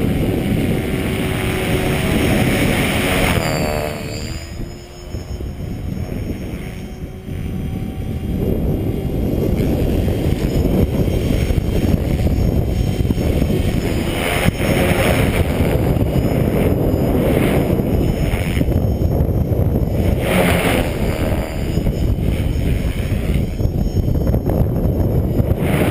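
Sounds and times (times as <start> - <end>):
rc helicopter rotor noise: 0.0 - 25.9
wind buffeting microphone: 0.0 - 25.9.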